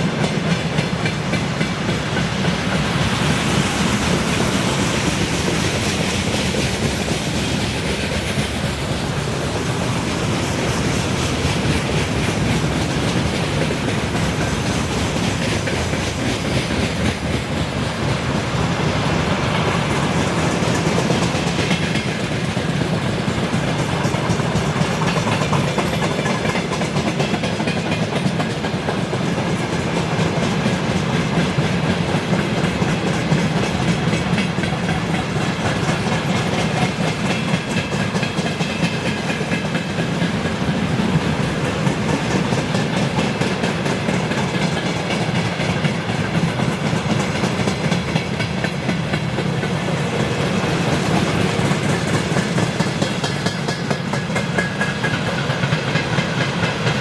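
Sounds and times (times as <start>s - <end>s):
train wheels clattering on track: 0.0s - 57.0s.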